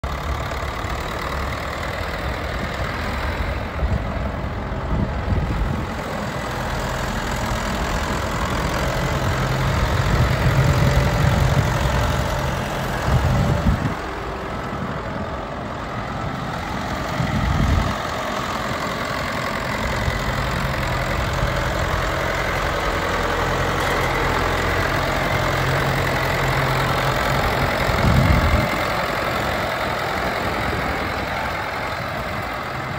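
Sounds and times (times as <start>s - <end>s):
low rumbles: 0.0s - 32.9s
tractor diesel engine running: 0.0s - 32.9s.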